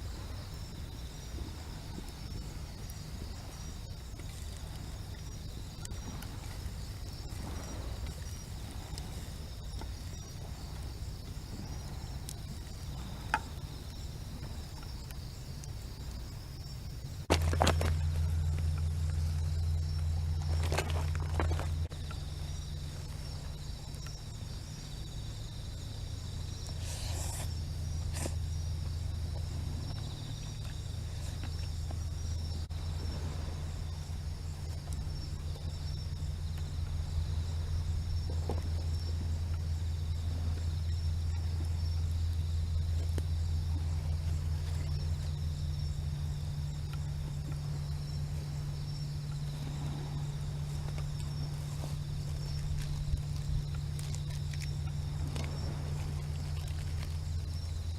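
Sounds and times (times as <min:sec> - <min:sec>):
low hum: 0:00.0 - 0:57.9
night insects chirping: 0:00.0 - 0:57.9.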